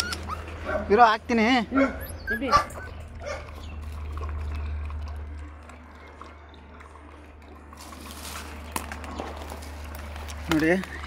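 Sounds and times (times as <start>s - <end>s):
puppies lapping milk: 2.1s - 11.0s.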